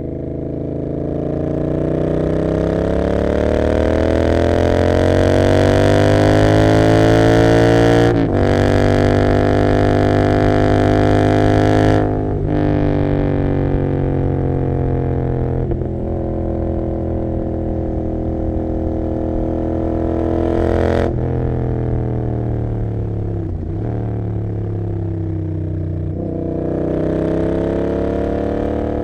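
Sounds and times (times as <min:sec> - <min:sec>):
motorcycle engine exhaust: 0:00.0 - 0:29.0.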